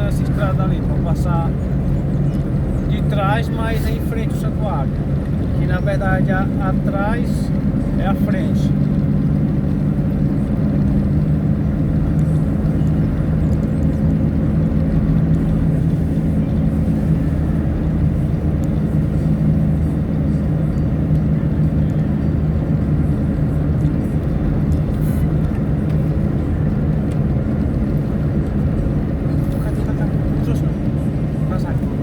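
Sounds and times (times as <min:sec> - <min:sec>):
car engine hum: 0:00.0 - 0:32.0
road rumble from tyres: 0:00.0 - 0:32.0.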